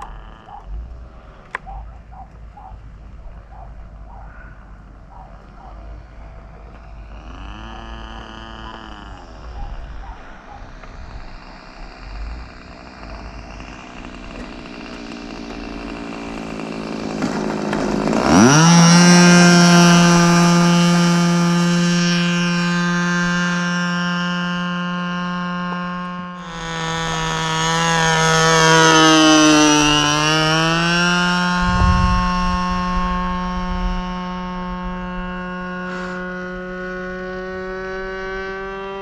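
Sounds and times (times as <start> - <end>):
model airplane engine revving: 0.0 - 4.0, 4.8 - 39.0.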